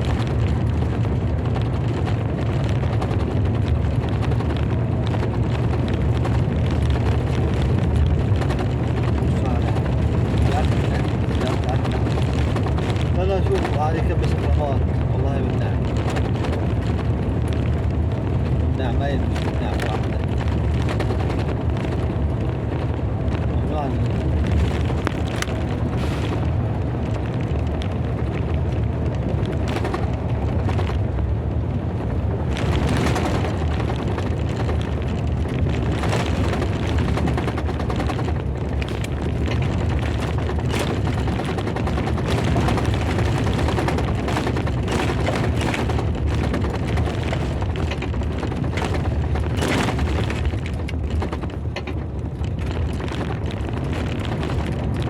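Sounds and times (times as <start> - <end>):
deep continuous rumble: 0.0 - 55.0
heavy rain drumming: 0.0 - 55.0.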